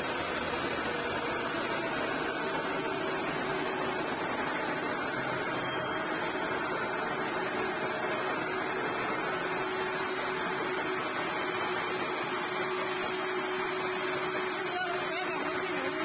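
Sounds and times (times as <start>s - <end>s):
wire drawing machine humming: 0.0s - 16.0s.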